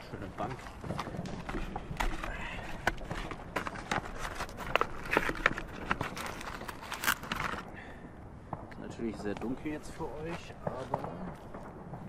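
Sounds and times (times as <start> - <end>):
firecrackers popping: 0.0 - 5.0, 5.7 - 12.0.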